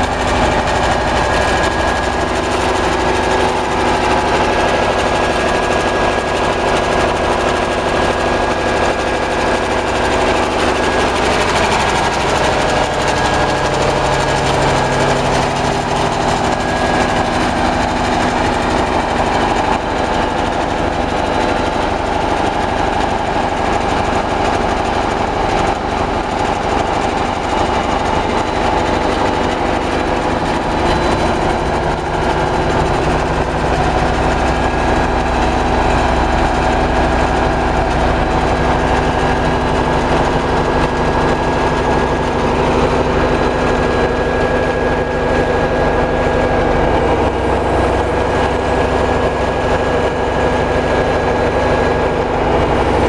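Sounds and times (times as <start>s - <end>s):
generator engine droning: 0.0s - 53.0s.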